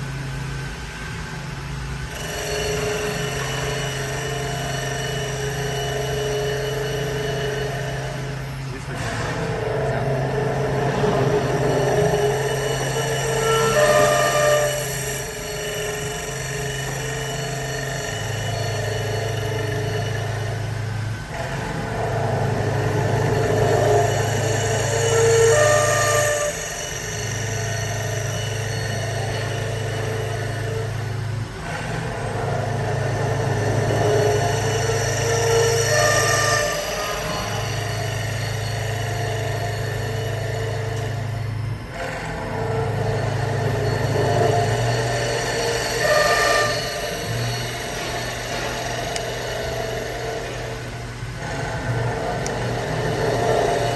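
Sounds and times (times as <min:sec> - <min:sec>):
wood lathe motors humming and whining: 0:00.0 - 0:53.9.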